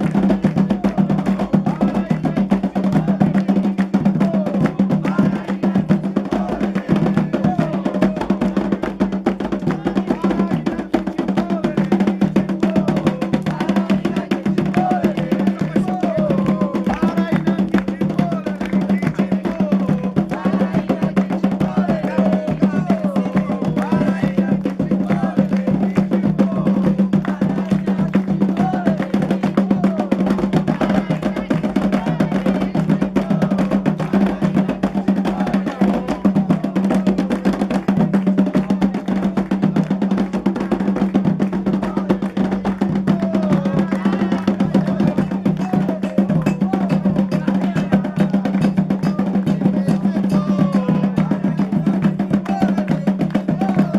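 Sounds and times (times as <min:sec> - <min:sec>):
clacking percussion: 0:00.0 - 0:53.9
fast hand drumming: 0:00.0 - 0:53.9
voices singing: 0:00.0 - 0:53.9.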